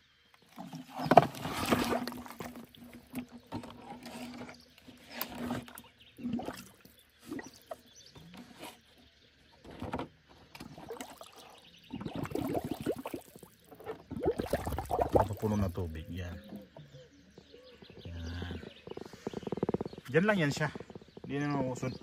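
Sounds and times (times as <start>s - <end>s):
water sloshing and gurgling: 0.3s - 22.0s.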